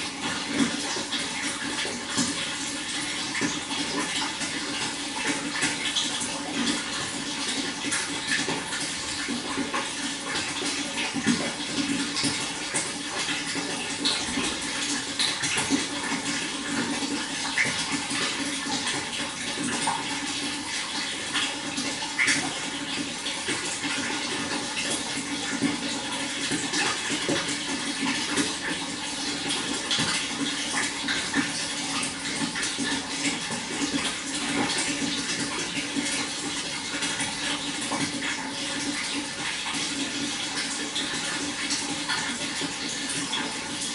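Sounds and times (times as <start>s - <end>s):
running water splashing: 0.0s - 43.9s.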